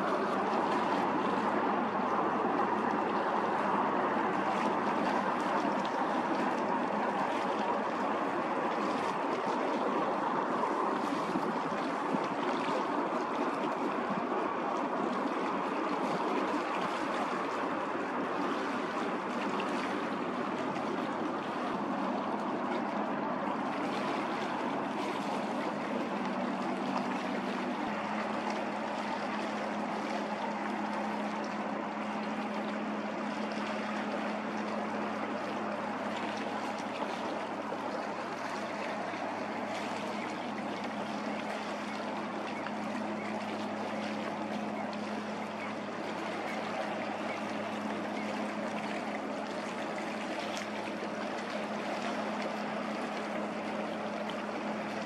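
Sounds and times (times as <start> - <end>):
ship machinery humming: 0.0 - 55.0
water rushing from bow wave: 0.0 - 55.0.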